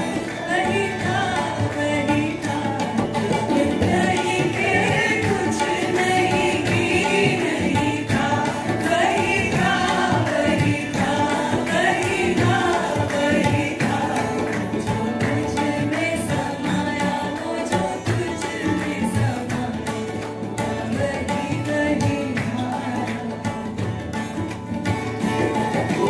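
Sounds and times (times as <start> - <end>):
hand drums: 0.0 - 26.0
harmonium: 0.0 - 26.0
strummed acoustic guitar: 0.0 - 26.0
voices singing together: 0.0 - 26.0.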